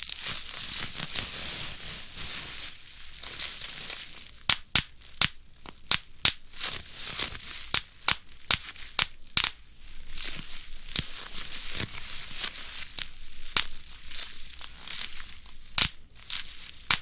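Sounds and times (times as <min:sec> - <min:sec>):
bubble wrap popping: 0:00.0 - 0:17.0
plastic sheet crinkling: 0:00.0 - 0:17.0.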